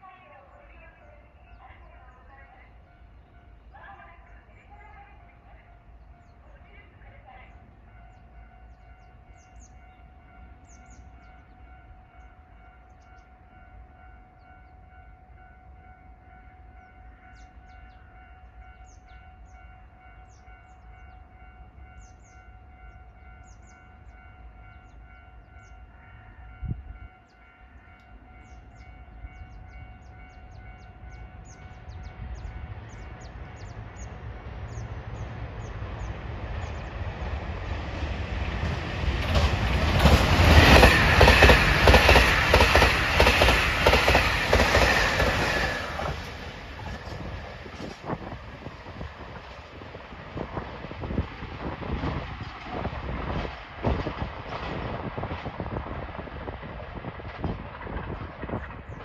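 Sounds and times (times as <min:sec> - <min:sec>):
train passing at speed: 0:00.0 - 0:59.0.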